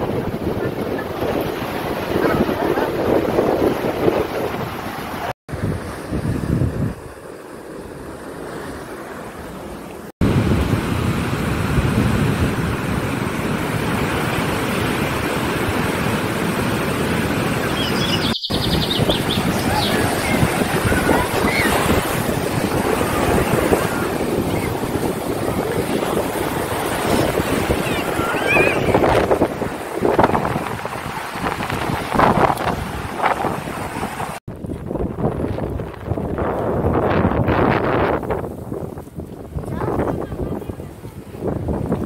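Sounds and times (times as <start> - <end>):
ocean surf breaking on beach: 0.0 - 42.0.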